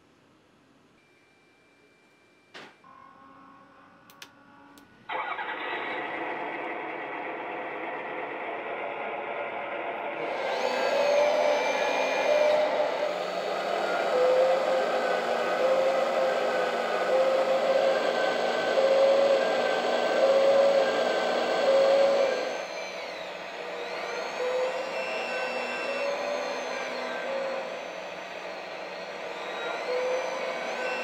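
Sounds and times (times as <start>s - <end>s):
electric hydraulic pump whirring: 5.1s - 31.0s.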